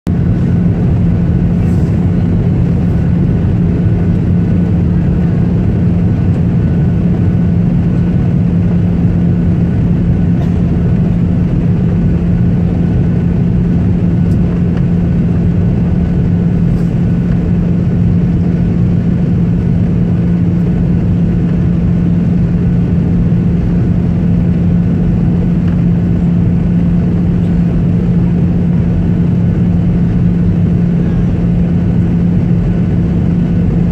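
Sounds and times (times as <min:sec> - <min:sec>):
airliner engines droning: 0:00.1 - 0:33.9.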